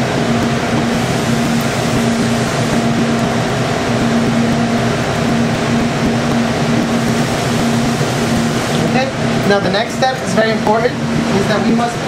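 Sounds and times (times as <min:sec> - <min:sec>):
climate control machinery humming: 0:00.0 - 0:12.0.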